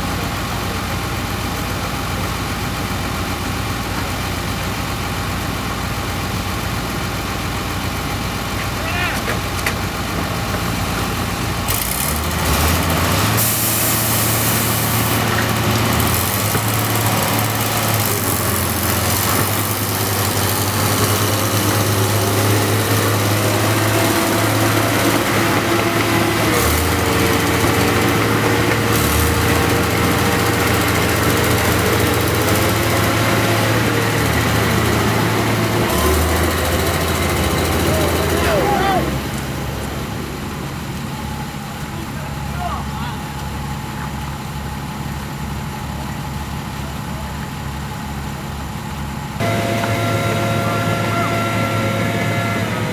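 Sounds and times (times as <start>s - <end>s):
farm machinery engine running: 0.0s - 52.9s.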